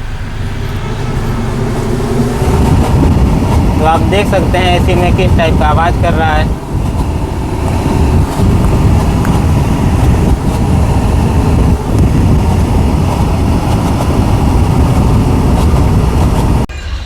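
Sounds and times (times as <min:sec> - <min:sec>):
blower fan knocking: 0:00.0 - 0:16.7
low engine rumble: 0:00.0 - 0:17.0.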